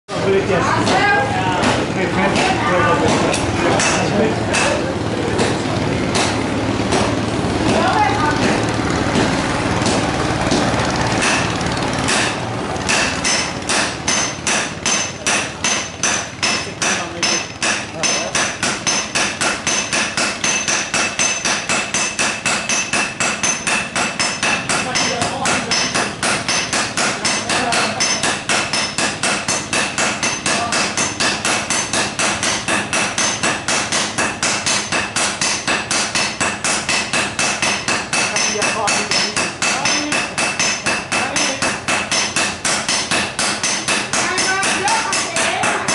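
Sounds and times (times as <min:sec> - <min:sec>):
sledgehammers striking steel on anvil: 0:00.9 - 0:04.8, 0:05.4 - 0:45.9.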